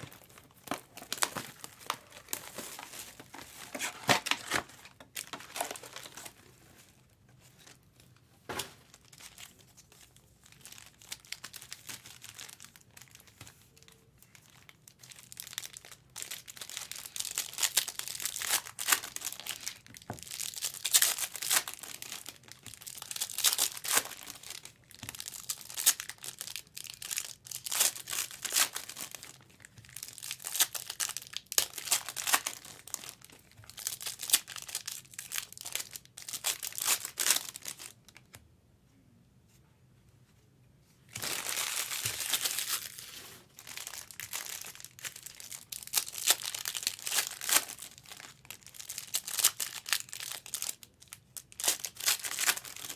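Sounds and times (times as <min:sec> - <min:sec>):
plastic wrappers crinkling and tearing: 0:00.0 - 0:38.3, 0:41.1 - 0:52.9.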